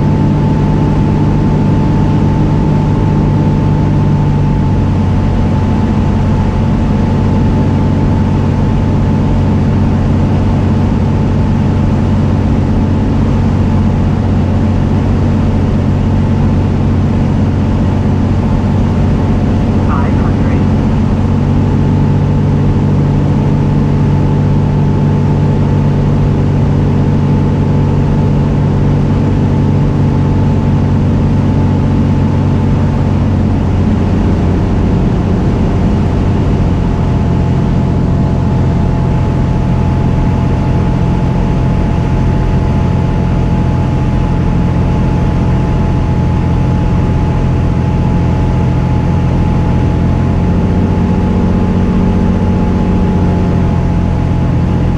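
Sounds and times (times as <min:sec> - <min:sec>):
airplane engine and propeller: 0:00.0 - 0:54.9.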